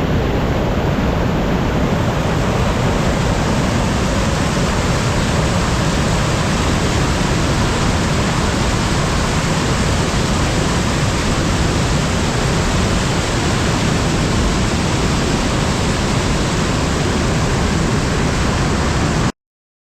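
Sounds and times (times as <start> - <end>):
waterfall rushing: 0.0 - 19.3.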